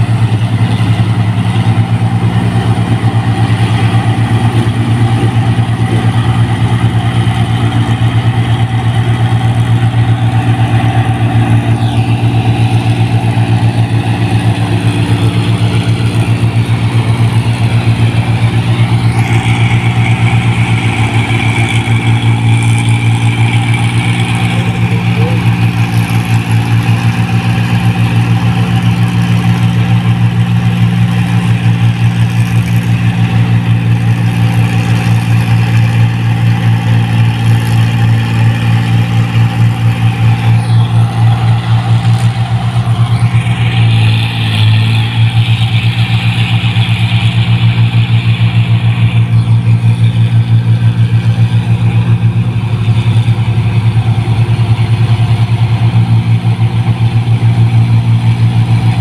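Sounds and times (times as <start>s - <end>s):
combine harvester engine droning: 0.0s - 59.0s.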